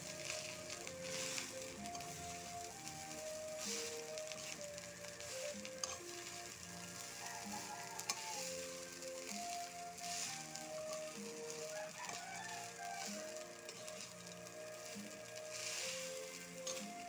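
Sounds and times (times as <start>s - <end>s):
faint melody: 0.0s - 17.0s
rice sizzling in a wok: 0.0s - 17.0s.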